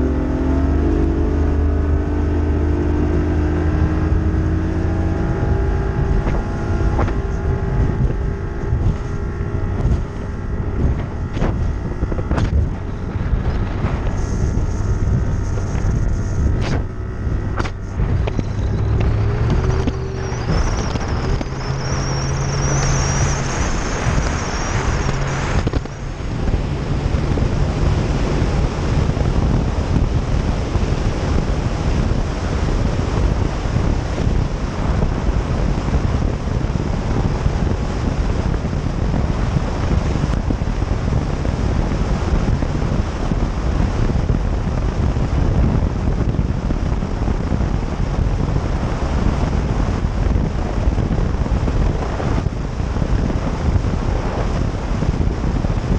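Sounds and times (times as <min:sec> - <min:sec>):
powerboat engine: 0:00.0 - 0:55.9
rushing water: 0:00.0 - 0:55.9
wind buffeting microphone: 0:00.0 - 0:55.9.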